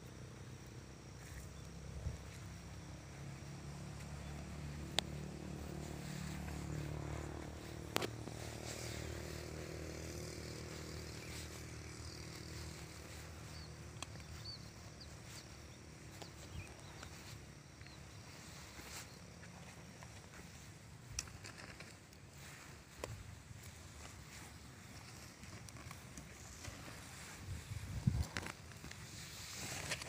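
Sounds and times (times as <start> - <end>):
low engine hum: 0.1 - 28.6.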